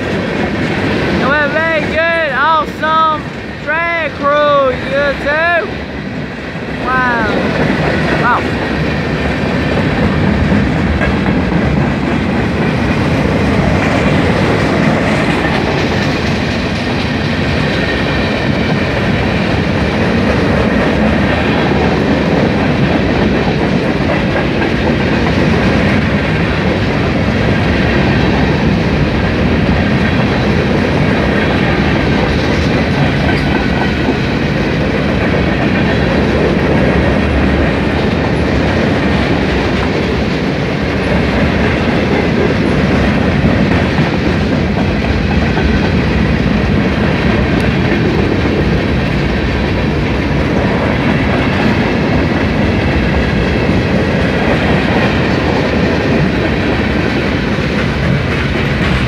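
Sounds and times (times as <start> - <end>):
clickety-clack of rail joints: 0.0 - 59.0
train wheels rumbling on rails: 0.0 - 59.0.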